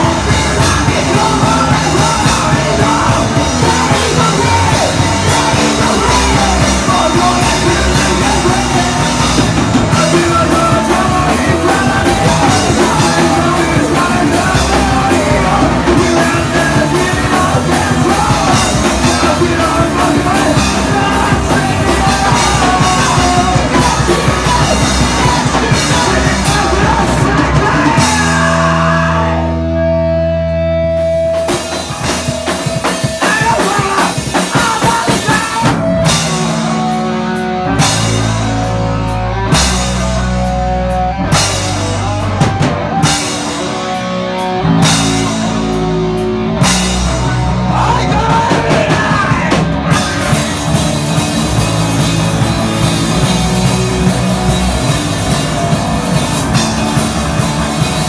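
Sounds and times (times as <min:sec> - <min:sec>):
person singing: 0:00.0 - 0:30.2, 0:31.1 - 0:38.4, 0:46.6 - 0:58.0
live rock band playing: 0:00.0 - 0:58.0.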